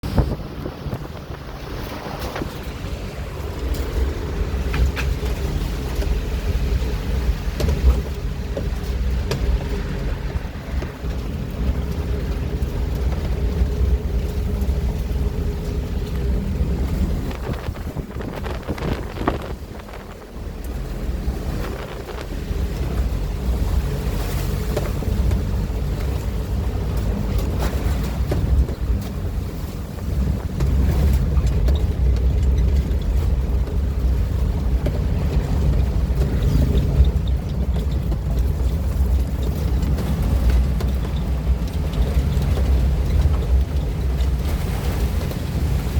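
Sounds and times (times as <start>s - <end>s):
heavy rain: 0.0s - 45.9s
wind buffeting microphone: 0.0s - 45.9s.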